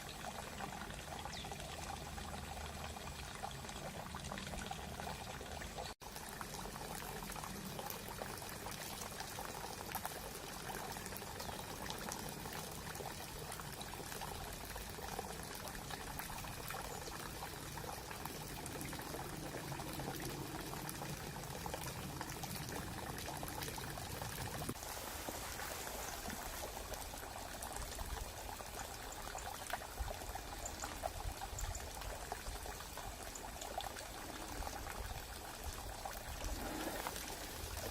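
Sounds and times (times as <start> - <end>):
brook trickling and gurgling: 0.0 - 37.9.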